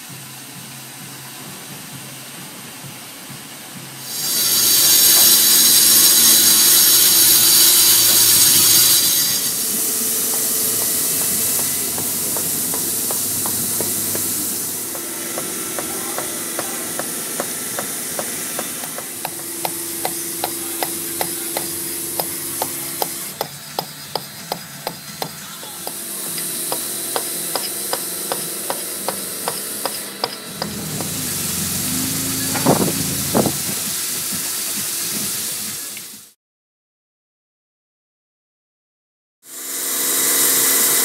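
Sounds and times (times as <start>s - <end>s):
stone saw whine: 4.0s - 35.5s, 39.5s - 41.0s
saw hiss: 4.0s - 36.3s, 39.5s - 41.0s.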